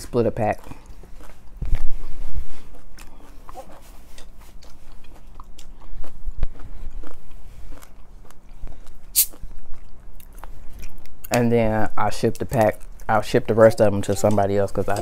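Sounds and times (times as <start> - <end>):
chewing and mouth sounds: 0.0 - 11.4, 12.2 - 15.0.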